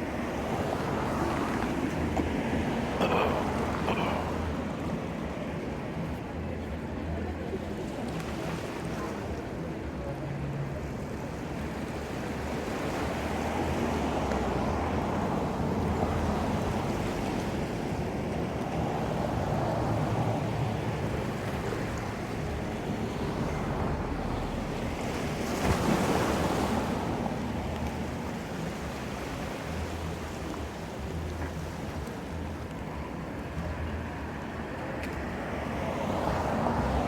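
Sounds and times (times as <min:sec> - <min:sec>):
ocean surf washing ashore: 0:00.0 - 0:06.2, 0:10.9 - 0:37.0.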